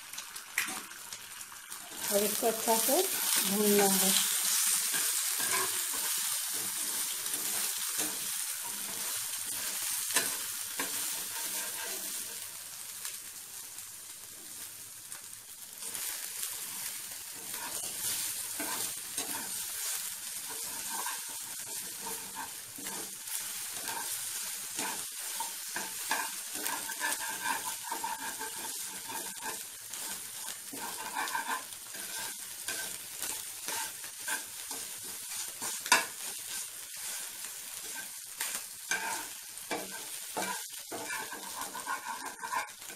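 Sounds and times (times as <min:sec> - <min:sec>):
egg sizzling in oil: 0:00.0 - 0:42.9
spatula scraping frying pan: 0:01.9 - 0:12.4, 0:15.8 - 0:42.9.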